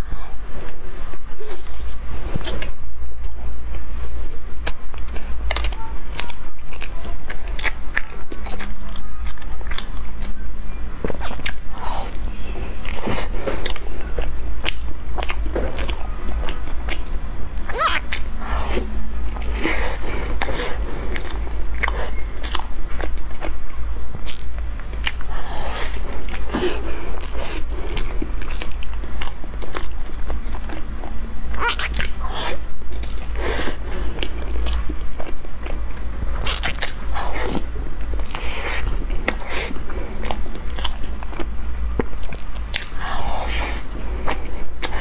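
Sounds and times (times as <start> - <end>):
person eating soft bun: 0.0 - 45.0.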